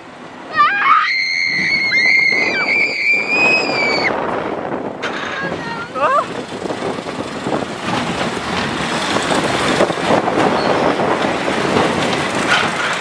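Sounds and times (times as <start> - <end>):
roller coaster wheels rumbling on track: 0.0 - 13.0.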